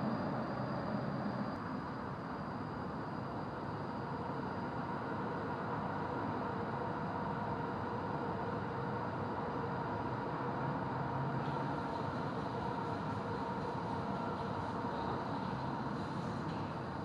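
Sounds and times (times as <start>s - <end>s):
background hum and rush: 0.0s - 17.0s.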